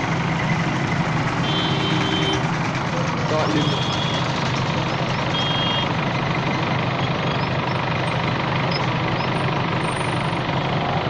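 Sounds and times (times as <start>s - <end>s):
diesel engine running: 0.0s - 11.0s
road traffic passing: 0.0s - 11.0s.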